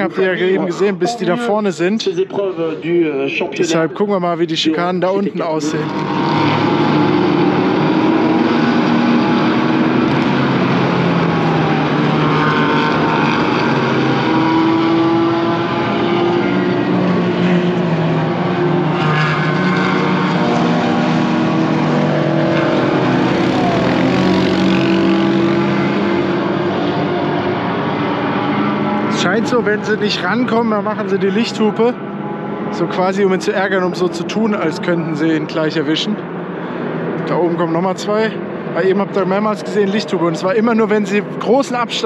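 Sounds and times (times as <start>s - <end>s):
sports cars passing: 0.0s - 42.0s.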